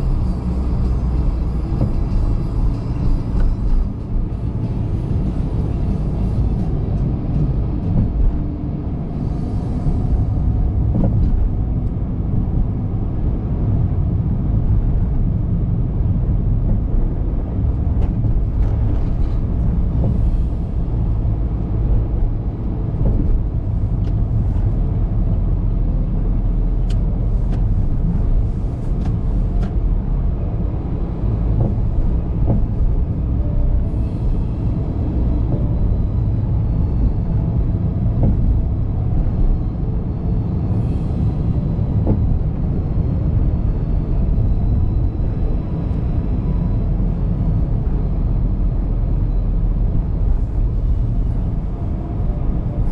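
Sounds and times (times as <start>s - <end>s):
car driving rumble: 0.0s - 52.9s.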